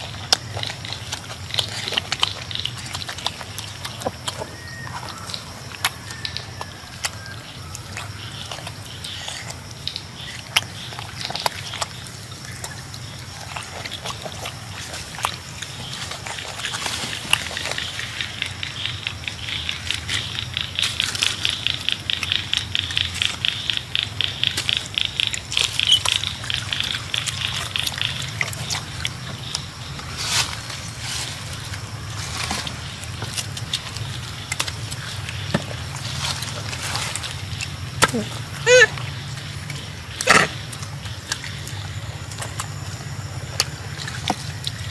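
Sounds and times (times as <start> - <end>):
monkeys chewing wet smacks: 0.0 - 32.1, 32.7 - 44.9.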